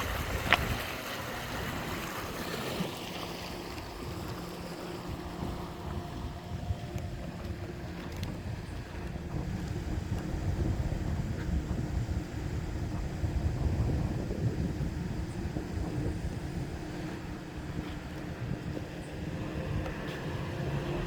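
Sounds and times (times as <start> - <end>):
rushing water: 0.0 - 21.0
vehicle engine rumble: 0.0 - 21.0
wind on microphone: 0.0 - 21.0.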